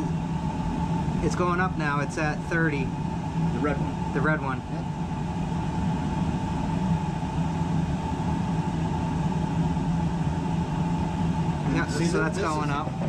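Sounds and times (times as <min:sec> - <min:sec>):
oil burner humming: 0:00.0 - 0:13.0.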